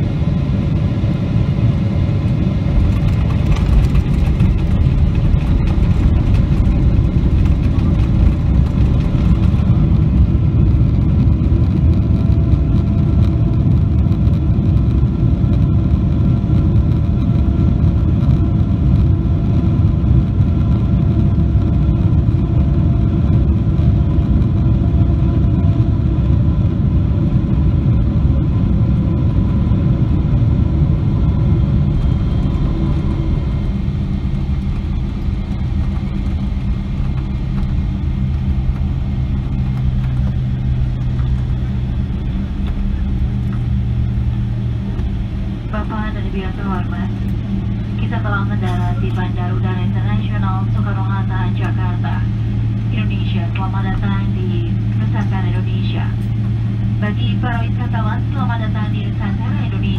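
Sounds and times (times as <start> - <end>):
airplane engines and wheels rumbling: 0.0 - 59.9.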